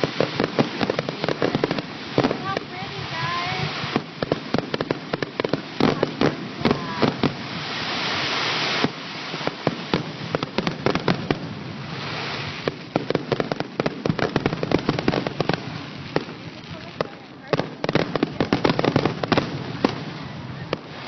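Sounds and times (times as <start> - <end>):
fireworks cracking and popping: 0.0 - 21.0
fireworks hissing: 0.0 - 21.0.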